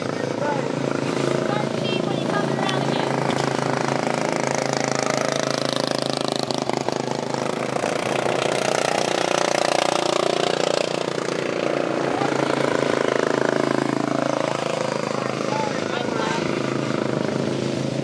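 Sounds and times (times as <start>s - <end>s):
lawn mower engine running hard: 0.0s - 18.0s.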